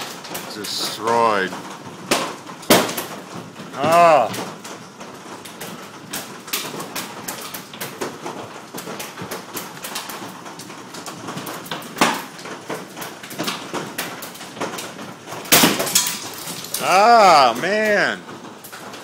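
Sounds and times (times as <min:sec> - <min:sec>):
hailstones pelting house: 0:00.0 - 0:19.0.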